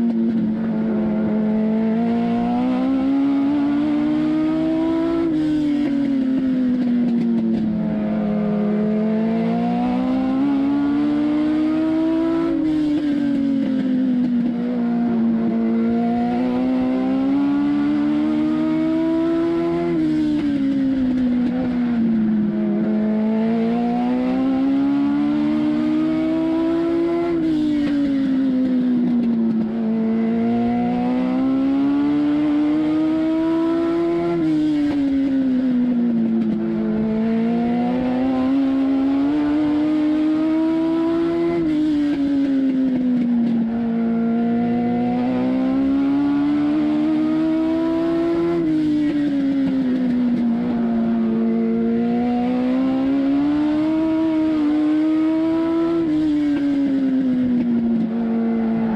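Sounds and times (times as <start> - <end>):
motorcycle engine racing: 0.0 - 58.9.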